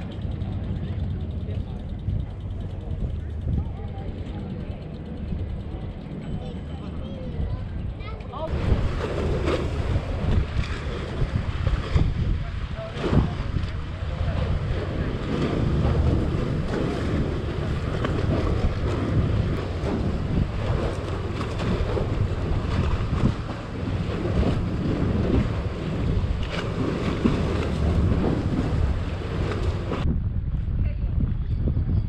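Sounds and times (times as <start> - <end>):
choppy sea water against jetty: 0.0 - 32.0
wind buffeting microphone: 0.0 - 32.0.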